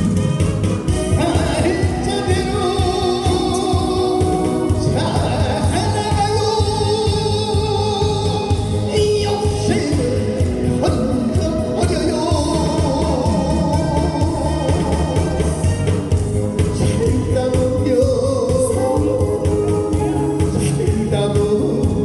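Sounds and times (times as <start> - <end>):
music with steady beat: 0.0 - 22.0
man singing into microphone: 1.1 - 15.9, 16.5 - 22.0.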